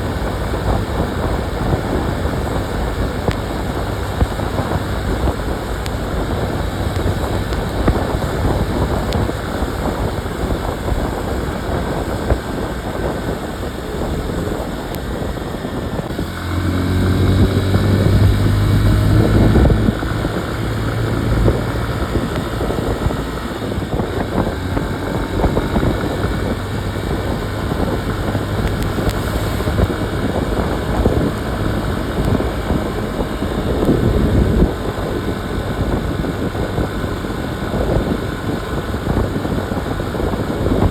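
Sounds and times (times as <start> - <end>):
motorcycle engine running: 0.0 - 40.9
road rumble: 0.0 - 40.9
wind buffeting microphone: 0.0 - 40.9.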